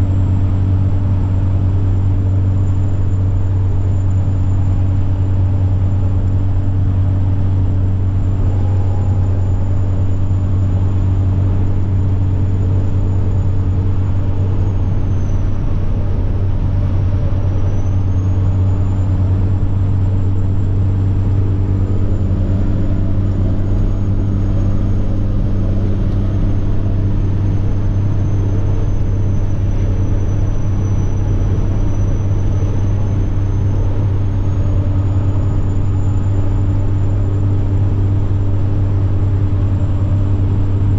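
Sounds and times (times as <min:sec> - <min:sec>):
truck diesel engine running: 0:00.0 - 0:40.9
turbocharger whine: 0:00.0 - 0:40.9.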